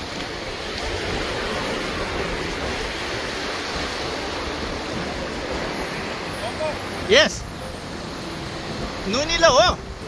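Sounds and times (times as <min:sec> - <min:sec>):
surf breaking over shallows: 0:00.0 - 0:10.0.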